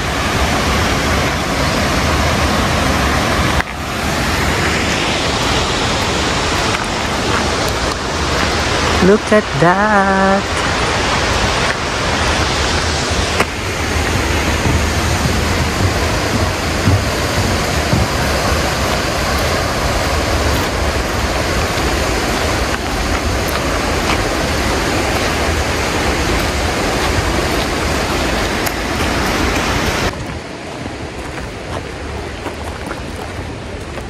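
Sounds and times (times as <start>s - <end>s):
waterfall and rushing river: 0.0s - 34.0s.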